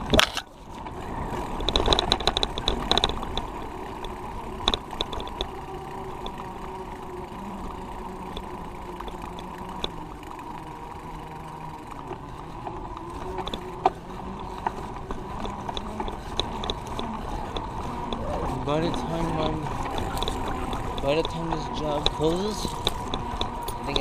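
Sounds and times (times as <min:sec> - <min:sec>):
bicycle clicks: 0:00.0 - 0:24.0
road and traffic noise: 0:00.0 - 0:24.0.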